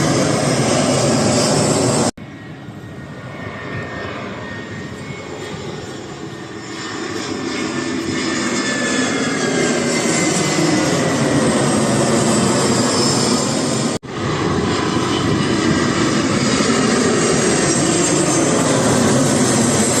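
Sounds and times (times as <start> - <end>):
airliner engines passing overhead: 0.0 - 20.0.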